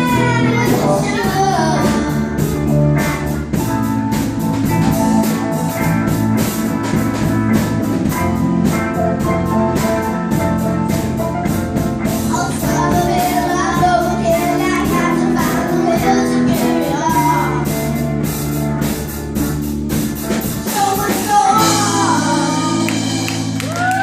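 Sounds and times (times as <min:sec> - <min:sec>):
drum kit beat: 0:00.0 - 0:24.0
keyboard chords: 0:00.0 - 0:24.0
sustained guitar chords: 0:00.0 - 0:24.0.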